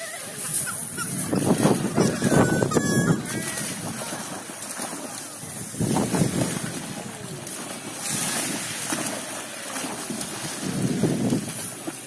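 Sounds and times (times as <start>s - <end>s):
wind buffeting microphone: 0.0s - 4.7s, 5.3s - 9.1s, 9.9s - 12.0s
dog splashing through water: 0.0s - 12.0s
small waves washing: 0.0s - 12.0s.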